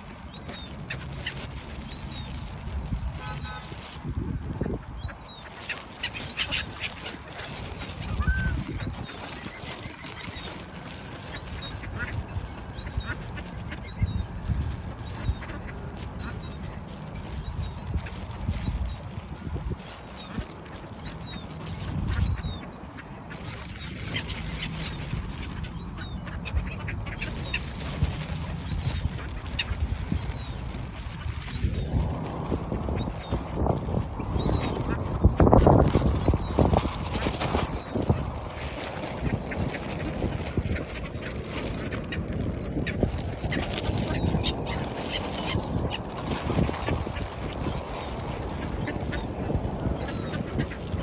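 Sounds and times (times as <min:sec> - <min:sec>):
waterbirds calling: 0:00.0 - 0:51.0.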